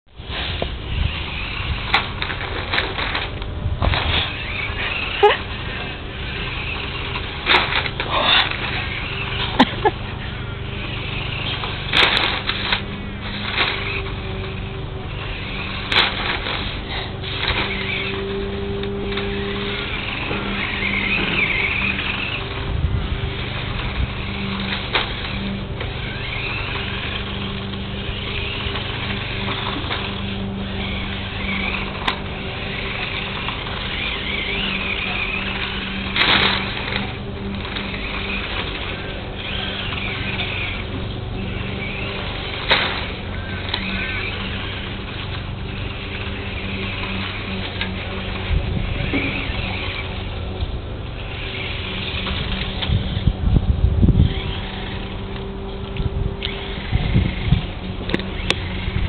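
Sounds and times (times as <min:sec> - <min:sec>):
steady low hum: 0:00.1 - 0:59.0
toy truck electric motor whining: 0:00.2 - 0:59.0.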